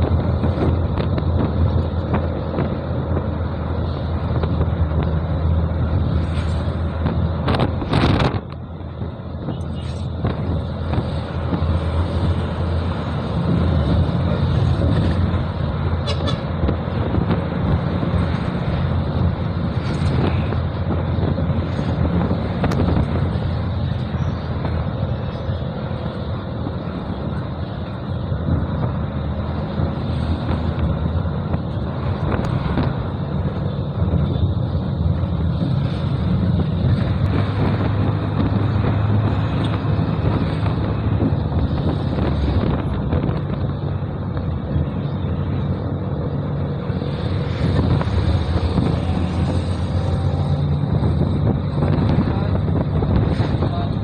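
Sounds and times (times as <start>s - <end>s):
road noise: 0.0s - 54.0s
vehicle engine drone: 0.0s - 54.0s.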